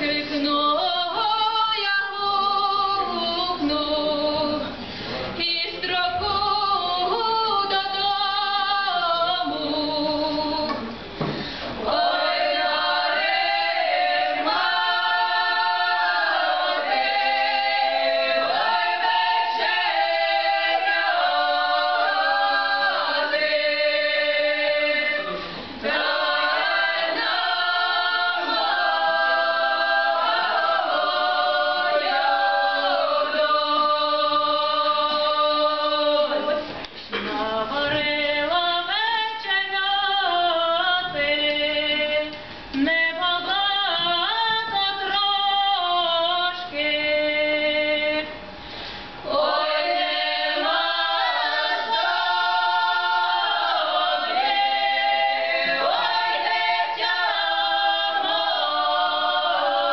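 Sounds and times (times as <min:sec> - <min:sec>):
women singing unaccompanied folk song: 0:00.0 - 0:04.8, 0:05.4 - 0:59.9.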